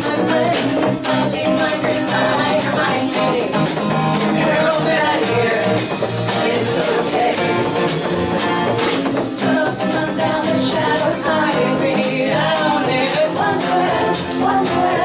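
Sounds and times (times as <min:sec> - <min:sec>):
frame drum beaten: 0:00.0 - 0:15.0
strummed acoustic guitar: 0:00.0 - 0:15.0
women singing: 0:00.0 - 0:15.0.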